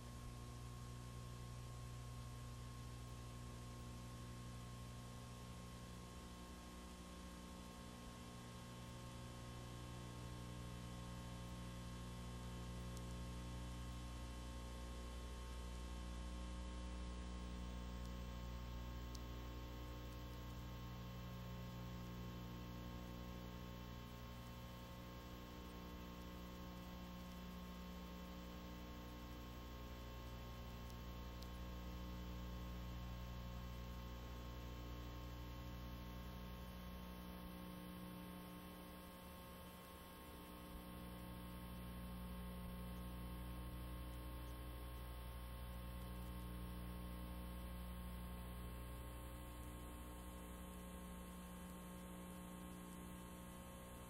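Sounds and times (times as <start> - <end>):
faint electrical mains hum: 0.0 - 54.0.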